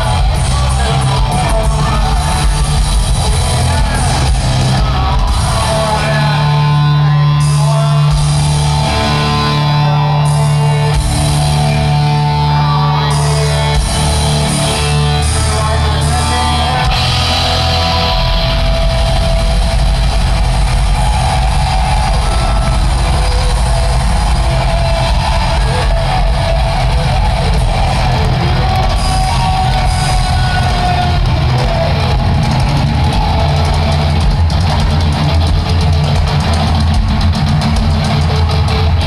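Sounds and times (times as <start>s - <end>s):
bass guitar: 0.0s - 39.0s
distorted guitar: 0.0s - 39.0s
drums: 0.0s - 39.0s.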